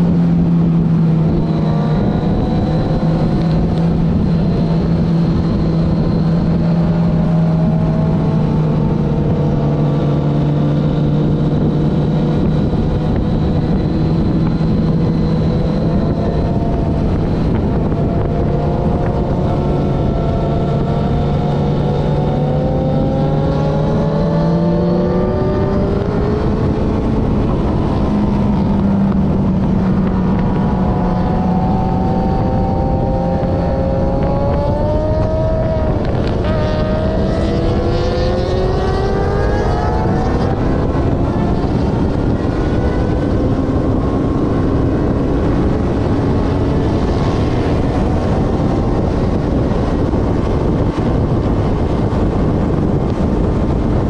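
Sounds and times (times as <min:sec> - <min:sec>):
motorcycle engine revving: 0:00.0 - 0:54.0
wind rush on microphone: 0:00.0 - 0:54.0.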